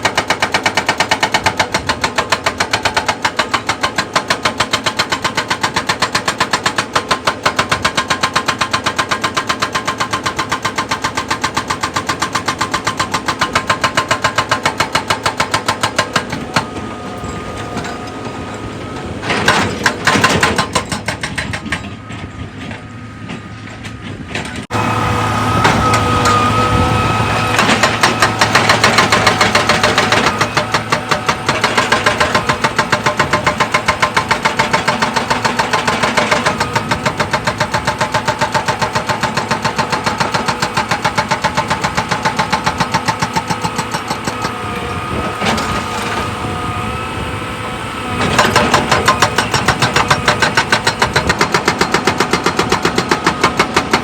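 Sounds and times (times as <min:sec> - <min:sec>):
excavator engine hum: 0:00.0 - 0:54.0.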